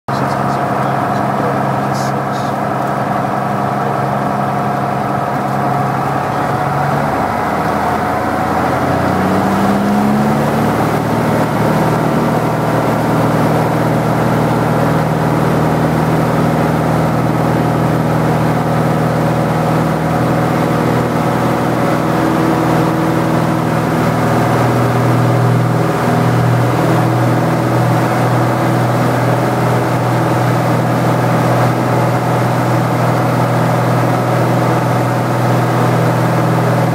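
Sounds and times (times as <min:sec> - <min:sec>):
light plane engine and propeller: 0:00.1 - 0:36.9.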